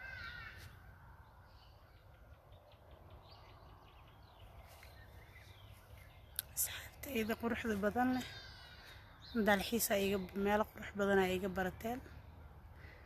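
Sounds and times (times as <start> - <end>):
faint bird chirps: 0.0 - 10.6.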